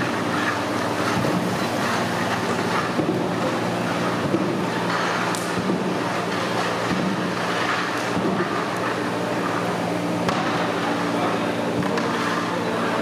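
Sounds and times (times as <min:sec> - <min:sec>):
steady rumbling with low hum: 0:00.0 - 0:13.0.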